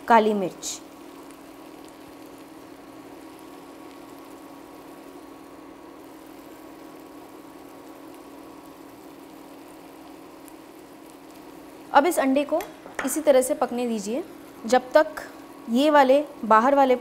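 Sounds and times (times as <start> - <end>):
eggs and vegetables frying in a pan: 0.0 - 17.0.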